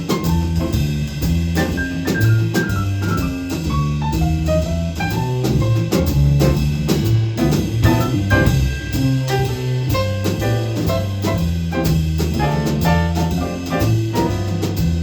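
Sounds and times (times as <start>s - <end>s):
jazz combo playing: 0.0s - 15.0s.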